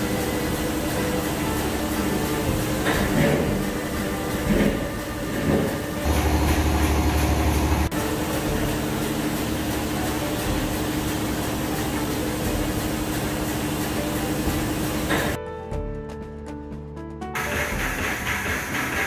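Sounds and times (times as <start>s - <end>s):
washing machine mechanical hum: 0.0s - 15.4s.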